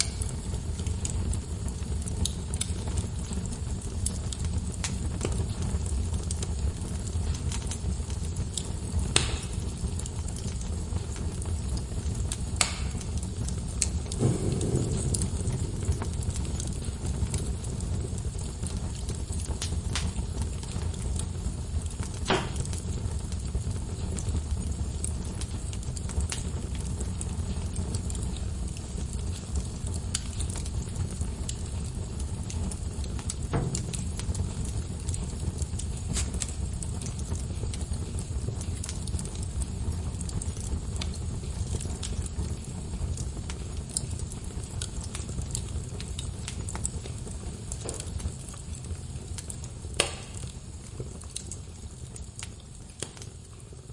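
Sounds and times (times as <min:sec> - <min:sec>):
fire pops and snaps: 0:00.0 - 0:53.9
wood fire crackling: 0:00.0 - 0:53.9.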